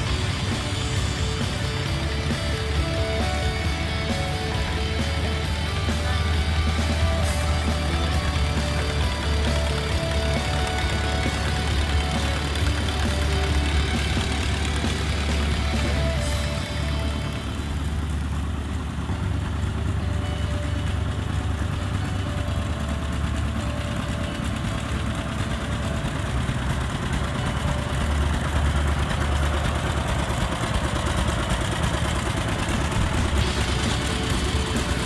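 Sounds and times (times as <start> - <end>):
tractors driving past: 0.0 - 35.0.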